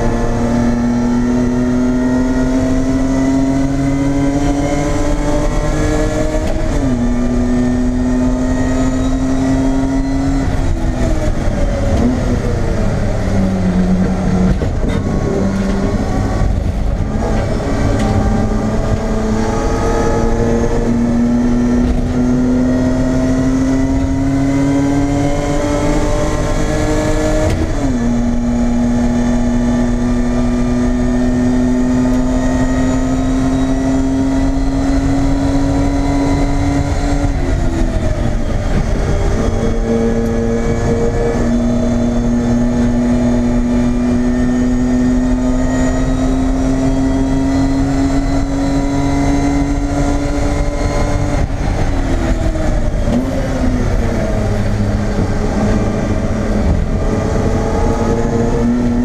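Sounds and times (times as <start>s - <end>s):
race car engine under load: 0.0s - 59.0s.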